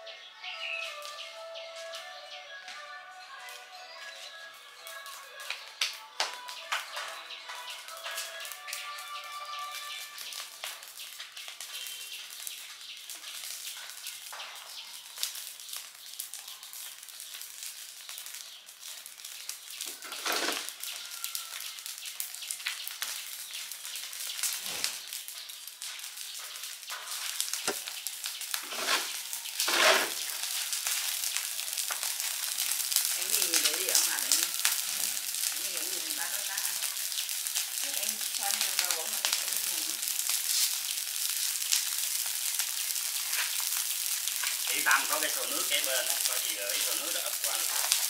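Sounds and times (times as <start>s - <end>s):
fire crackling: 0.6s - 2.5s, 3.4s - 48.0s.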